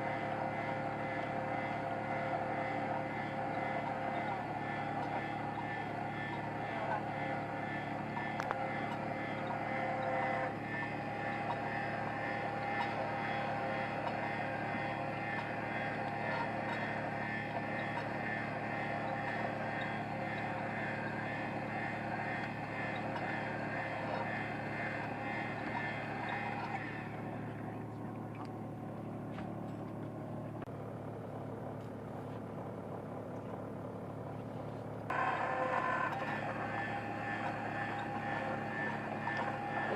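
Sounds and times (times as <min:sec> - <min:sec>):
boat motor drone: 0:00.0 - 0:39.9
steady whine: 0:00.0 - 0:39.9.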